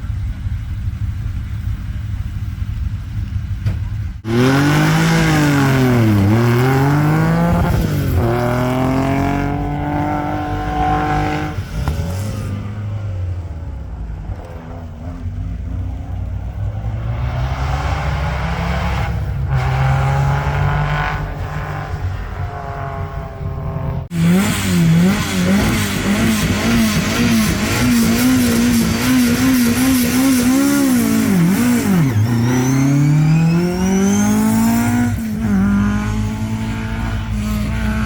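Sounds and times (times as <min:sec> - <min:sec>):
rally car engine revving: 0:04.2 - 0:38.0.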